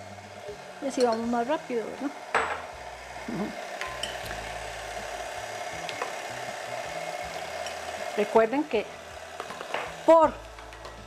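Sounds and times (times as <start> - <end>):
stand mixer motor whine: 0.0 - 11.0.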